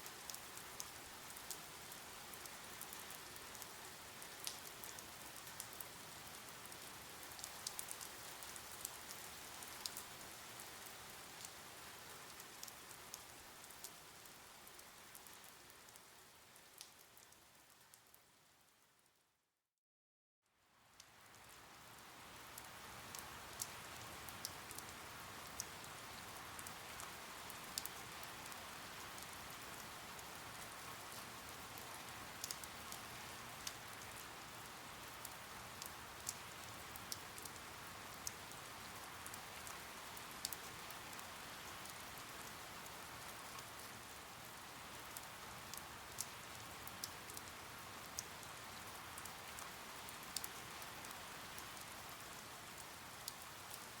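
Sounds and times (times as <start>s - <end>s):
sharp raindrop ticks: 0.0s - 18.3s, 20.9s - 54.0s
steady rain hissing: 0.0s - 19.0s, 20.6s - 54.0s.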